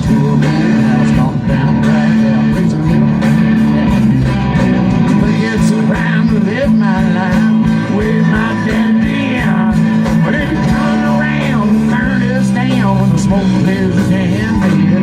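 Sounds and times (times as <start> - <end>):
bass line: 0.0 - 15.0
drum beat: 0.0 - 15.0
guitar: 0.0 - 15.0.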